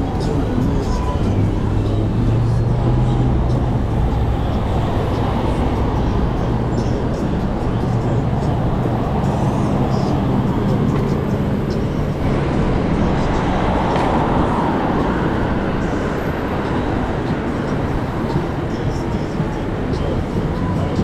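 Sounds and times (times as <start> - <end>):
road and traffic noise: 0.0 - 21.0
wind rushing over microphone: 0.0 - 21.0.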